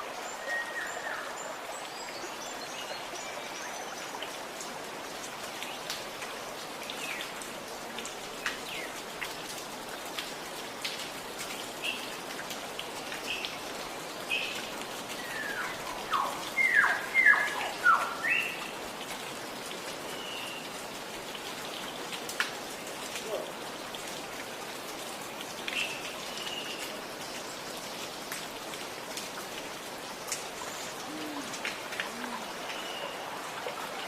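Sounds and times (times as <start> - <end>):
water gurgling and dripping: 4.2 - 34.0.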